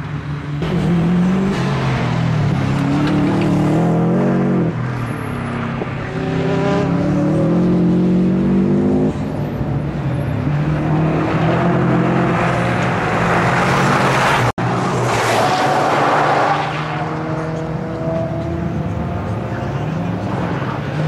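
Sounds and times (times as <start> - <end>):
rally car engine revving: 0.6 - 21.0.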